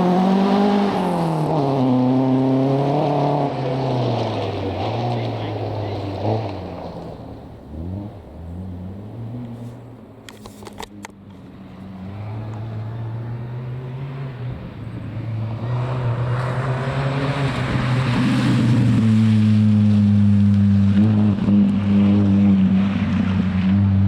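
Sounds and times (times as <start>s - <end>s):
rally car engine: 0.0s - 24.0s
tyre and road noise: 0.0s - 24.0s.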